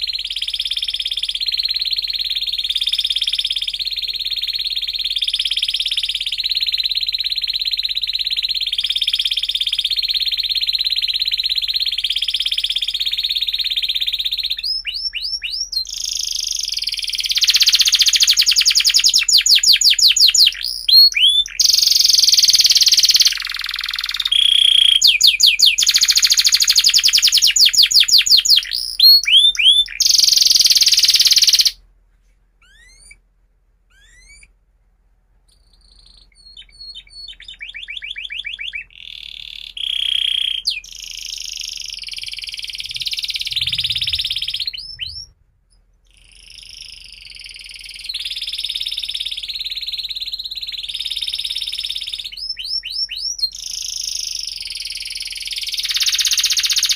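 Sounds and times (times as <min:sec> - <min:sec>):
canary singing trills: 0:00.0 - 0:31.8, 0:32.6 - 0:33.2, 0:33.9 - 0:34.6, 0:35.5 - 0:45.4, 0:46.1 - 0:56.9
faint bird chirps: 0:00.0 - 0:31.8, 0:32.6 - 0:34.6, 0:35.4 - 0:56.9.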